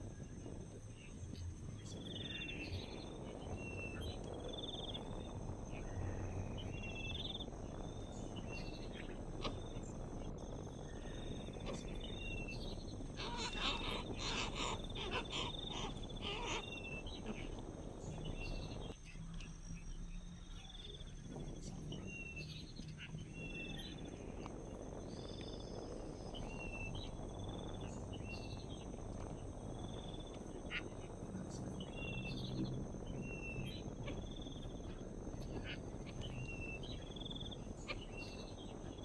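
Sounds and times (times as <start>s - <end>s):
high-pitched insect trill: 0.0s - 39.0s.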